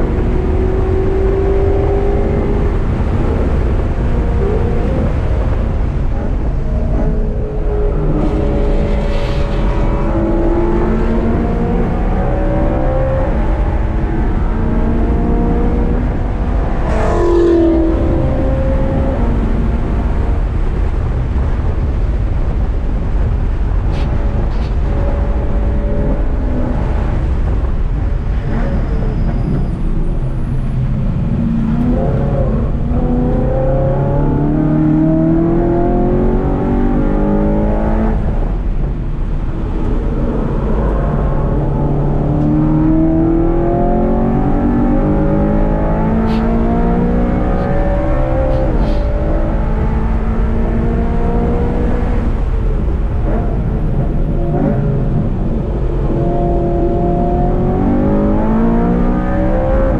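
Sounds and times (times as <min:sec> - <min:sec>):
car engine revving: 0:00.0 - 0:21.9, 0:30.2 - 0:59.9
road and tyre rumble: 0:00.0 - 0:59.9.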